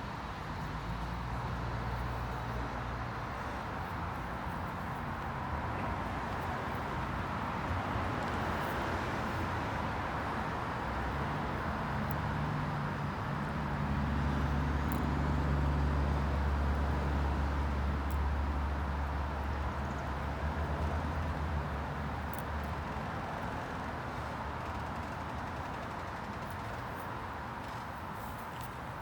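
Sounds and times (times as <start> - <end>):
vehicle engine rumble passing by: 5.4 - 29.0.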